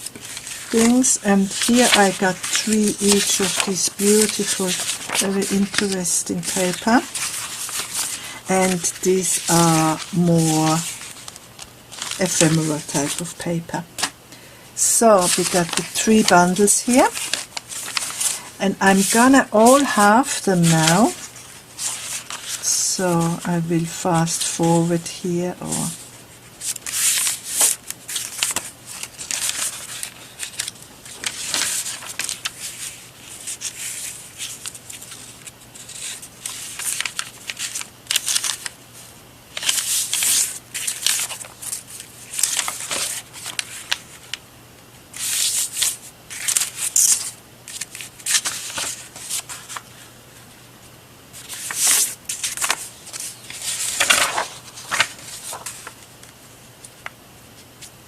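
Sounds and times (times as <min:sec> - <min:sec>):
paper rustling: 0:00.0 - 0:14.2, 0:14.8 - 0:44.4, 0:45.1 - 0:50.7, 0:51.4 - 0:57.9.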